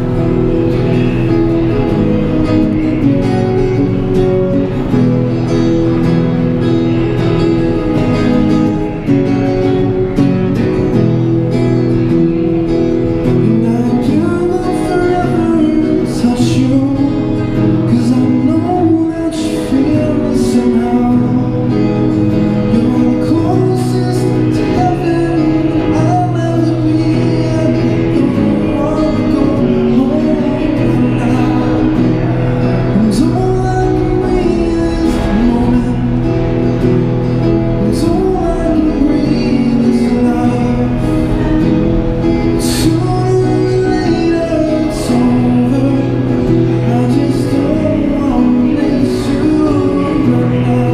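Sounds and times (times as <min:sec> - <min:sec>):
man singing: 0:00.0 - 0:50.9
strummed acoustic guitar: 0:00.0 - 0:50.9.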